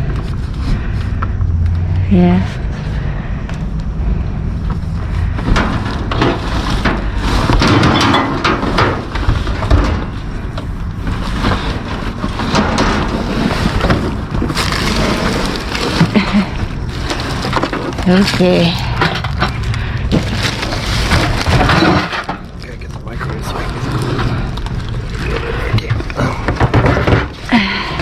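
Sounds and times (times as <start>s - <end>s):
steady low rumble: 0.0s - 28.0s
trash rummaged in a dumpster: 0.0s - 28.0s.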